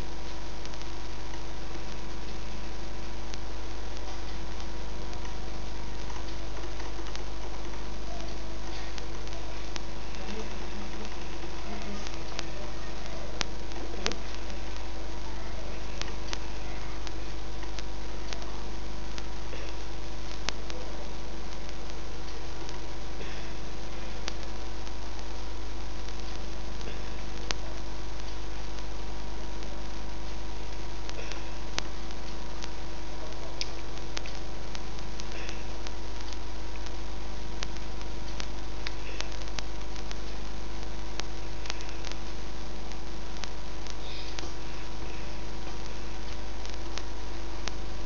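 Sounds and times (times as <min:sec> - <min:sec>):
electrical hum and hiss: 0:00.0 - 0:48.0
faint clicks: 0:00.0 - 0:48.0.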